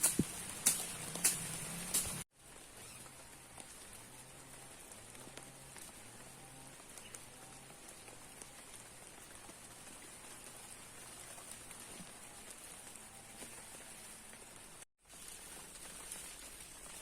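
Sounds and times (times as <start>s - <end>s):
rain hissing: 0.0s - 17.0s
raindrops ticking: 0.0s - 17.0s.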